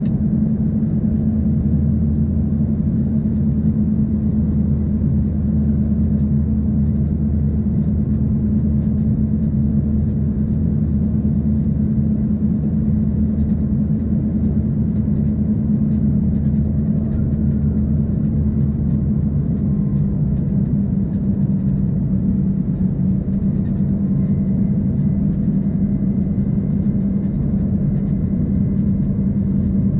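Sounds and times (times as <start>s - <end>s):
airflow noise over fuselage: 0.0s - 29.9s
jet engines humming: 0.0s - 29.9s.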